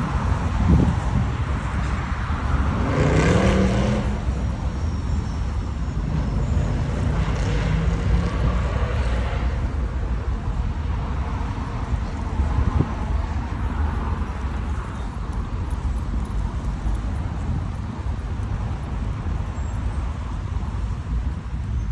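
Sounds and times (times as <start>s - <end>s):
road traffic noise: 0.0s - 21.9s.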